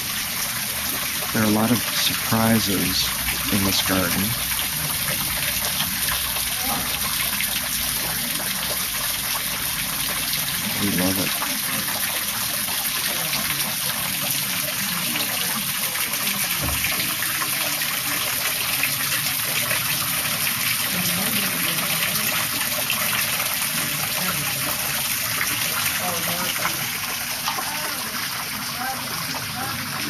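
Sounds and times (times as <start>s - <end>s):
fountain trickling and splashing: 0.0s - 30.0s.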